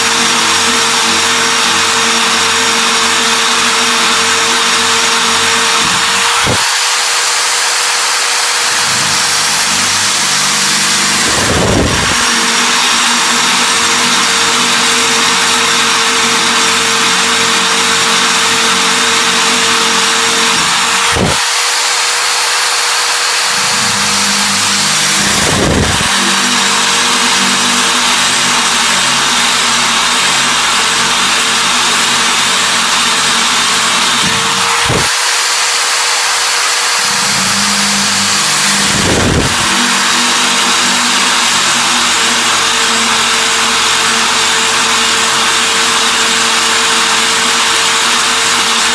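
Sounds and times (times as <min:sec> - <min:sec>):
core drill grinding: 0:00.0 - 0:48.9
drill motor whine: 0:00.0 - 0:48.9.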